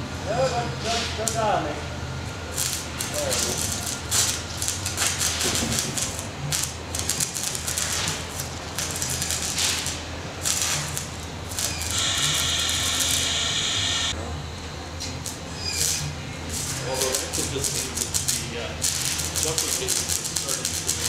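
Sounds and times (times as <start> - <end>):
welding arc crackling: 0.6 - 14.2, 15.0 - 21.0.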